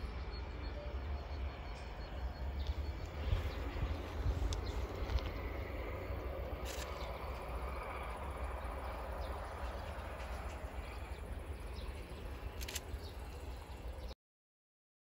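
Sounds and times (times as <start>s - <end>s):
wind buffeting microphone: 0.0s - 14.1s
faint outdoor background: 0.0s - 14.2s.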